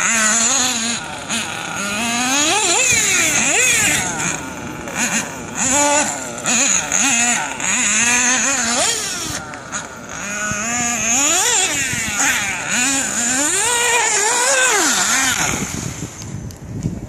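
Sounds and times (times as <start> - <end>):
model engine running: 0.0 - 16.7.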